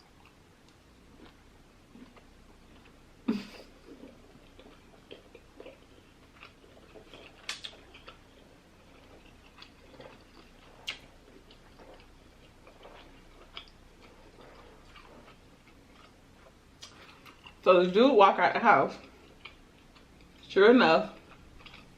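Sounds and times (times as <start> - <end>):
chewing with wet smacking: 0.0 - 21.9.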